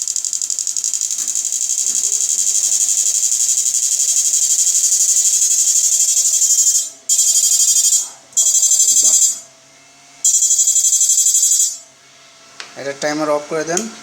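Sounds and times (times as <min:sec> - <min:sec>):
high-pitched pulsing electric buzz: 0:00.0 - 0:09.6, 0:10.2 - 0:12.2.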